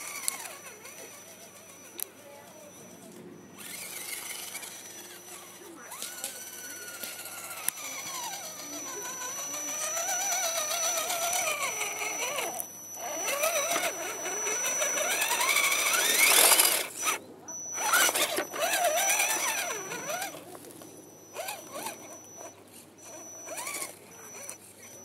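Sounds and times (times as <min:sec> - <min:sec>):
high-pitched whine: 0:00.0 - 0:25.0
rc car electric motor whining: 0:00.0 - 0:25.0.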